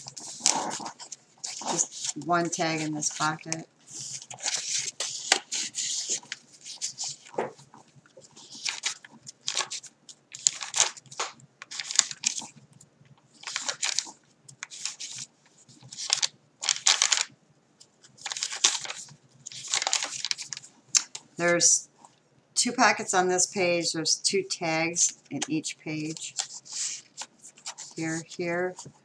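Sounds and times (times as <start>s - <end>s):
paper pages crinkling: 0.0s - 21.3s, 25.2s - 29.0s.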